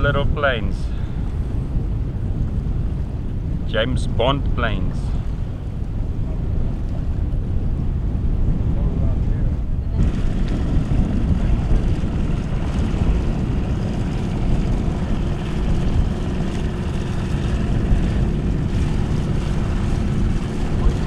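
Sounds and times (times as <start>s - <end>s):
plane engine and propeller droning: 0.0s - 21.0s.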